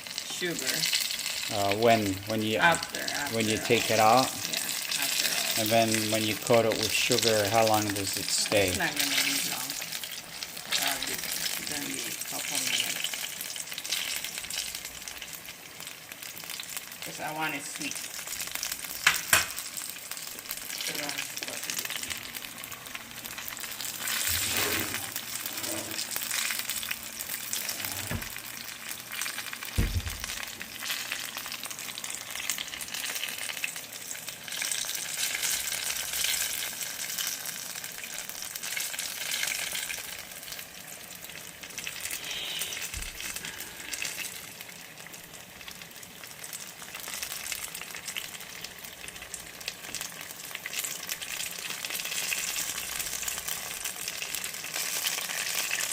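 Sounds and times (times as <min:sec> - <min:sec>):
spring rolls sizzling in oil: 0:00.0 - 0:55.9.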